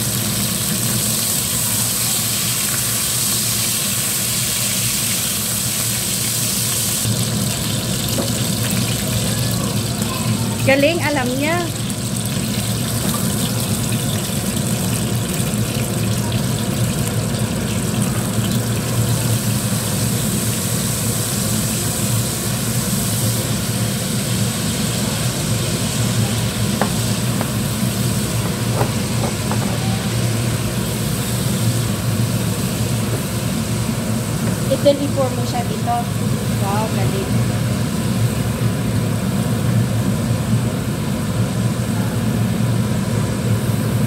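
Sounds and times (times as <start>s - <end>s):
sauce sizzling in a frying pan: 0.0s - 40.6s.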